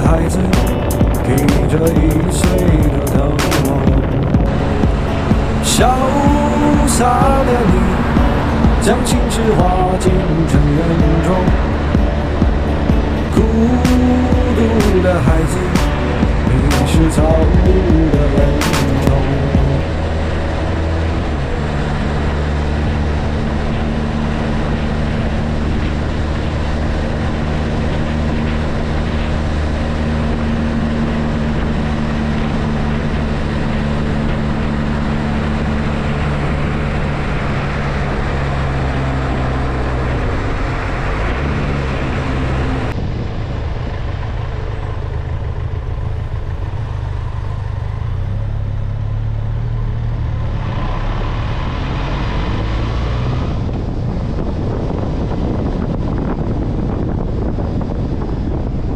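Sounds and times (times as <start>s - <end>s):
wind rushing: 0.0s - 45.4s, 50.0s - 58.9s
motorcycle engine running: 0.0s - 58.9s
road noise on wet surface: 0.0s - 58.9s.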